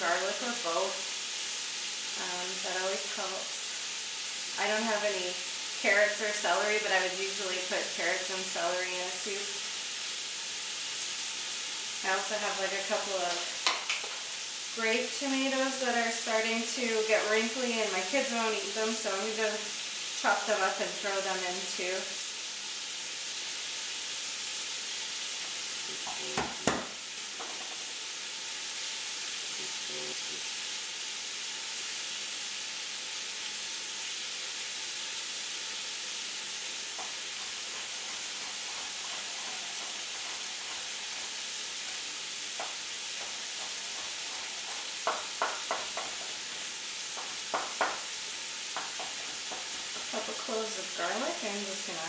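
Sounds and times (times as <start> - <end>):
meat sizzling in a pot: 0.0 - 52.0.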